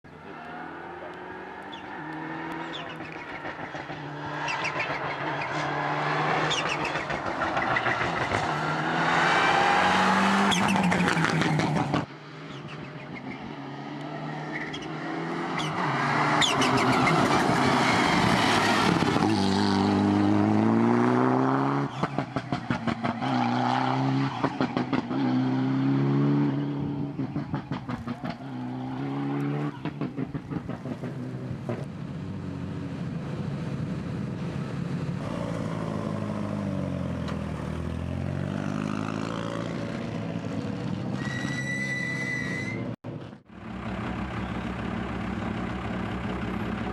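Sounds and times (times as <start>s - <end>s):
rally car engines at full throttle: 0.1s - 46.9s.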